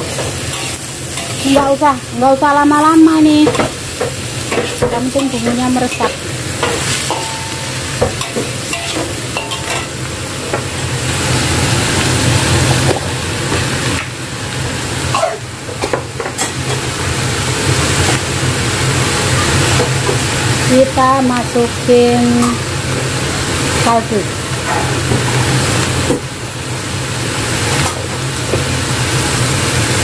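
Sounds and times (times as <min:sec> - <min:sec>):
vegetables sizzling in a wok: 0:00.0 - 0:30.0.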